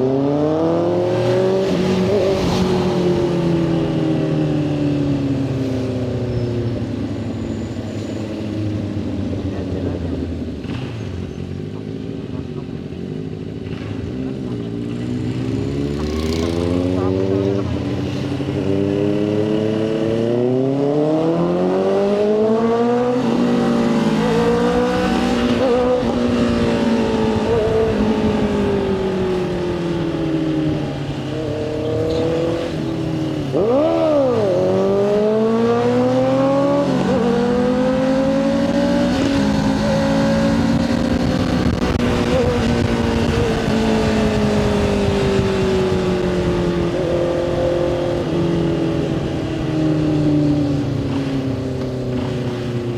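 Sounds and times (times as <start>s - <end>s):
motorcycle engine accelerating: 0.0s - 52.9s
wind and road noise: 0.0s - 52.9s.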